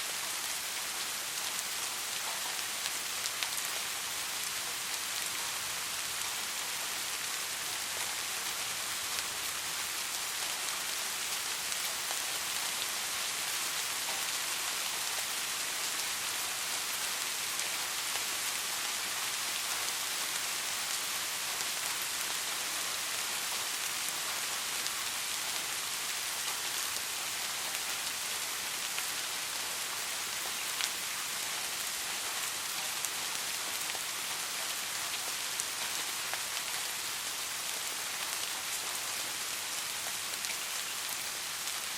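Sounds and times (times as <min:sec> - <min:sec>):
soft rain hiss: 0:00.0 - 0:41.9.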